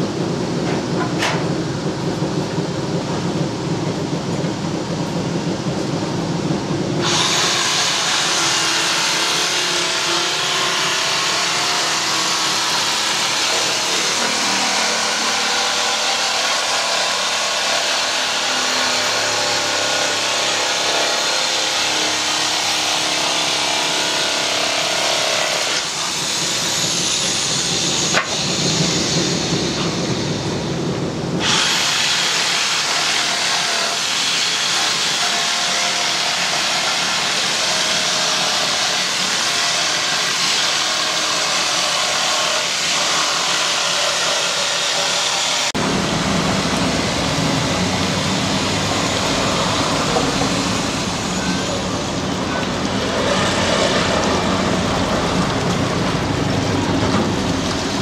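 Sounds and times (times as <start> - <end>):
woodworking power tool running: 4.2 - 58.0.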